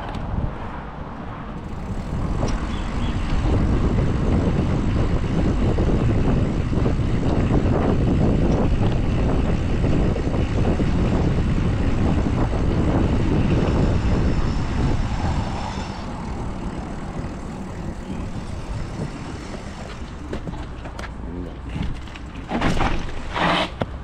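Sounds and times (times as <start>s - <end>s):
wind on microphone: 0.0s - 20.8s
street traffic rumble: 0.0s - 24.0s.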